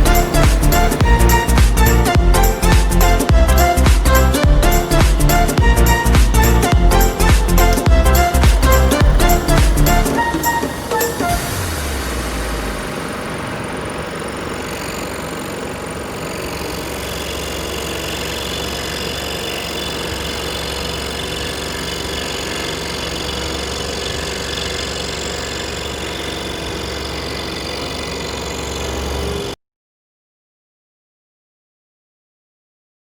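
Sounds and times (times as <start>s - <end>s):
electric scroll saw running: 0.0s - 29.6s.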